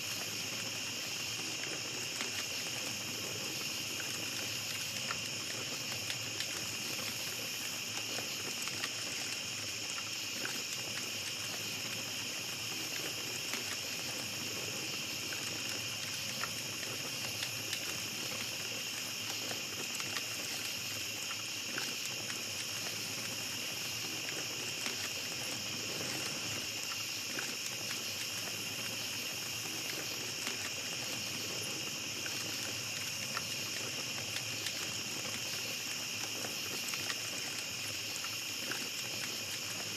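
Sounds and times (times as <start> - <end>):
campfire crackling: 0.0 - 39.9
night insects chirping: 0.0 - 39.9.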